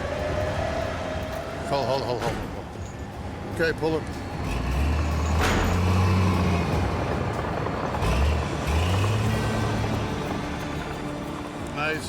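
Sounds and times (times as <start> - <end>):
bulldozer diesel engine under load: 0.0 - 12.0.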